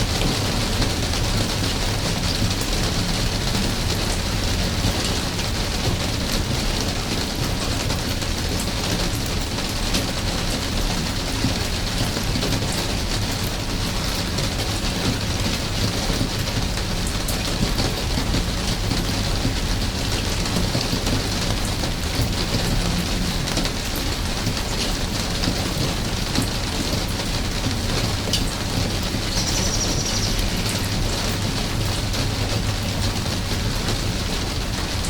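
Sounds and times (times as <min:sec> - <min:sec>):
raindrops ticking: 0:00.0 - 0:35.0
steady rain hissing: 0:00.0 - 0:35.0.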